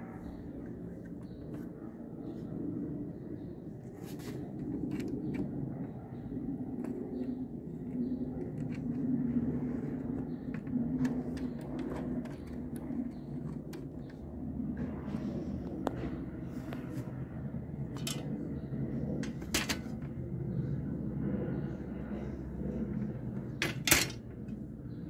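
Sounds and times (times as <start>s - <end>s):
machinery rumbling hum: 0.0s - 25.0s.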